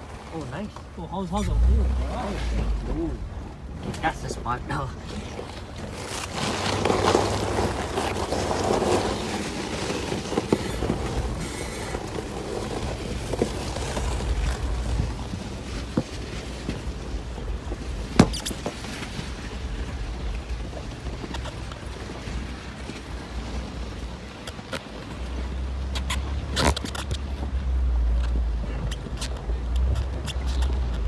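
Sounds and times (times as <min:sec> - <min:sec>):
vehicle rumbling over rough track: 0:00.0 - 0:31.0.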